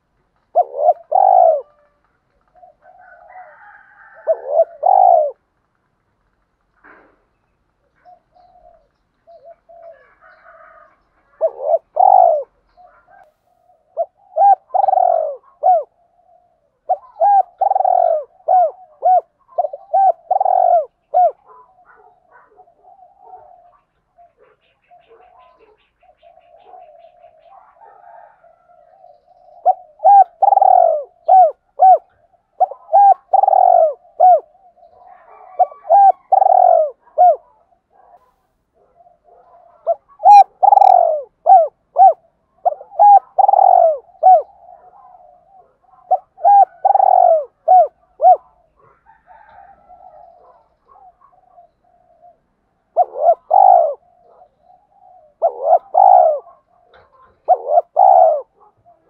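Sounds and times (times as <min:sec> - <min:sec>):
dove cooing: 0:00.0 - 0:05.7, 0:06.8 - 0:59.0.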